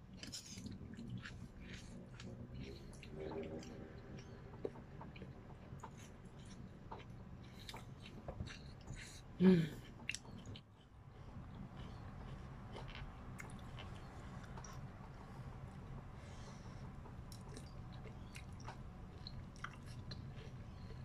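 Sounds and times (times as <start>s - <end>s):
person chewing food: 0.0s - 21.0s
steady low hum: 0.0s - 21.0s.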